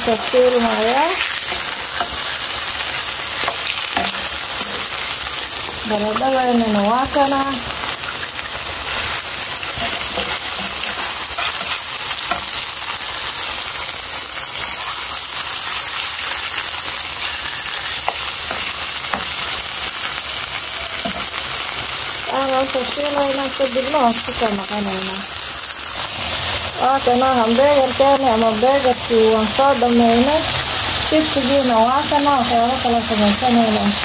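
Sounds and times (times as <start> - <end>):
deep-frying chips: 0.0 - 34.0
hot oil sizzling: 0.0 - 34.0.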